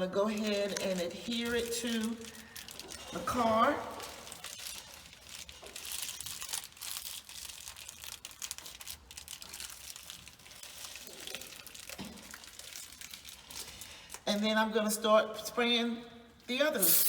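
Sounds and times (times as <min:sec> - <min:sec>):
insulation sheet crinkling: 0:00.0 - 0:14.3.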